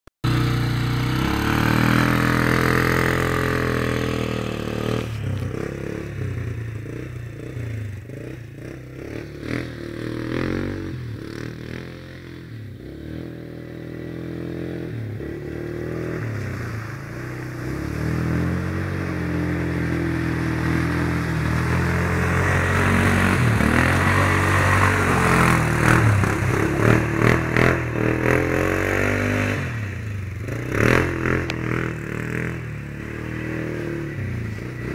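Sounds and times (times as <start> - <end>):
quad engine revving: 0.2 - 34.9.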